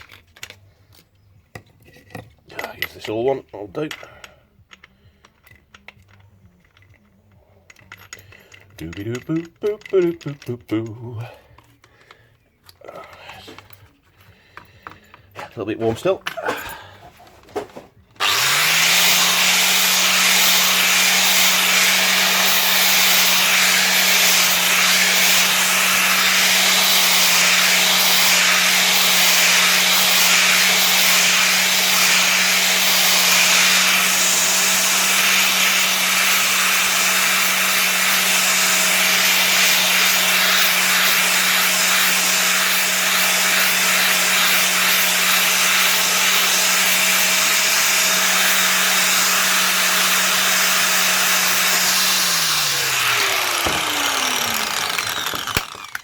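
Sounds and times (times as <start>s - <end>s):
angle grinder grinding steel: 2.5s - 17.0s, 18.1s - 56.0s.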